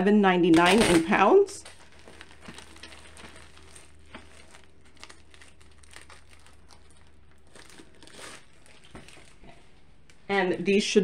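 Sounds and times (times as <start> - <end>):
low steady hum: 0.0 - 11.0
plastic wrapping crinkling: 0.5 - 10.3.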